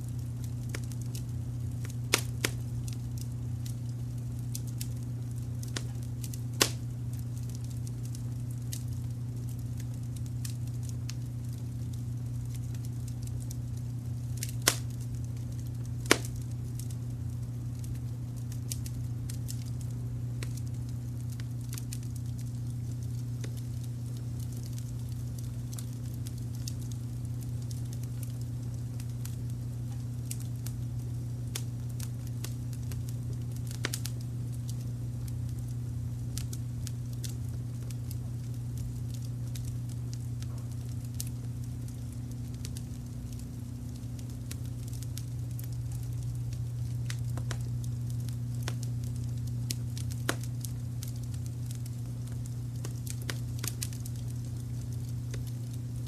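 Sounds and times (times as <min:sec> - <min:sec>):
low brown-noise hum: 0:00.0 - 0:56.0
wood fire crackling: 0:00.0 - 0:56.0.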